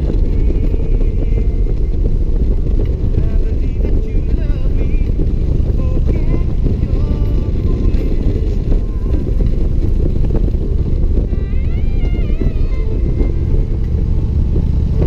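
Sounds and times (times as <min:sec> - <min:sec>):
faint music: 0:00.0 - 0:15.0
motorcycle engine rumble: 0:00.0 - 0:15.0
wind noise on microphone: 0:00.0 - 0:15.0.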